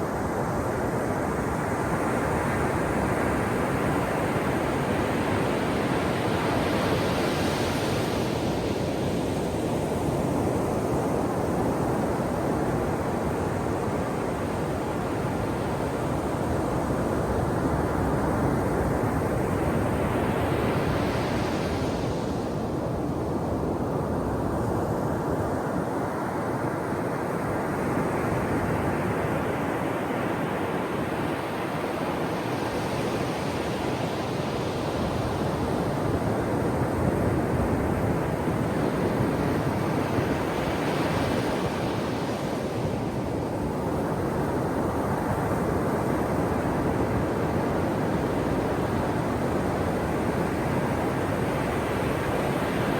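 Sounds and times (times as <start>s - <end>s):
ocean surf washing on shore: 0.0s - 52.9s.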